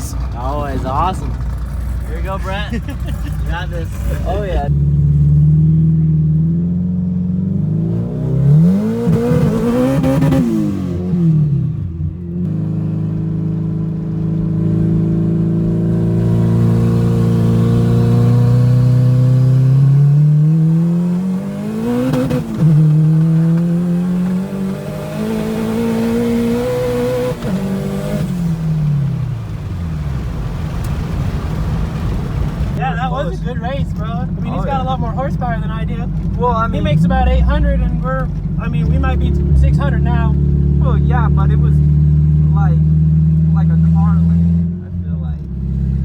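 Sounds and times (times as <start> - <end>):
race car engine at full throttle: 0.0 - 46.0.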